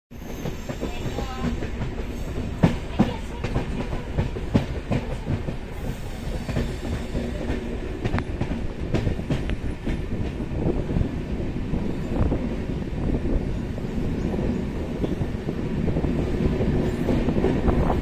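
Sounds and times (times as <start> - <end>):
train clacks and knocks: 0.1 - 18.0
train wheels rumbling on rail: 0.1 - 18.0.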